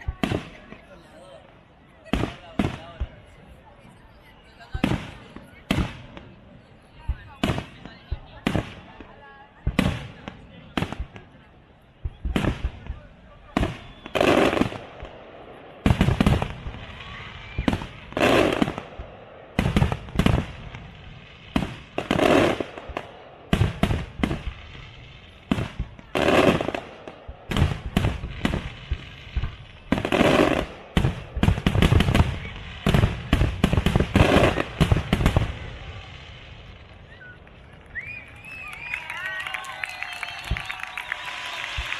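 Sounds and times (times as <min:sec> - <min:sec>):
fireworks bursting with bangs: 0:00.0 - 0:41.9
fireworks crackling: 0:00.0 - 0:41.9.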